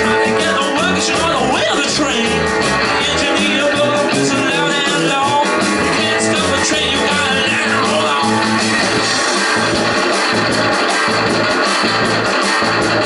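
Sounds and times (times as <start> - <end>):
bass: 0.0 - 13.0
drums: 0.0 - 13.0
electric guitar: 0.0 - 13.0.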